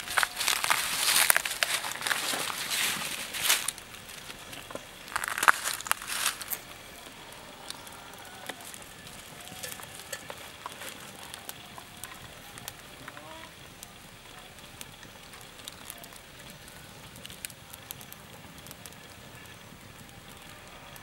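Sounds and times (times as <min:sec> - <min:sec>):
food frying and crackling: 0:00.0 - 0:21.0
wood fire popping: 0:00.0 - 0:21.0.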